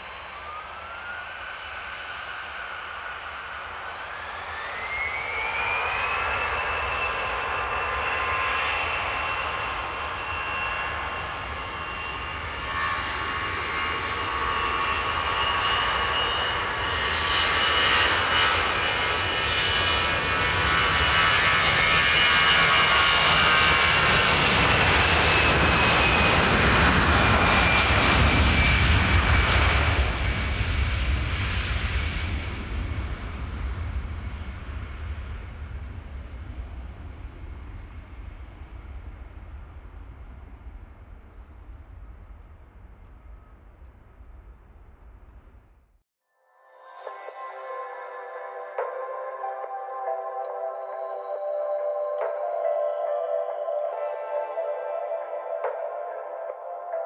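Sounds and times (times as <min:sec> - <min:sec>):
jet engines whine and roar: 0:00.0 - 0:45.8.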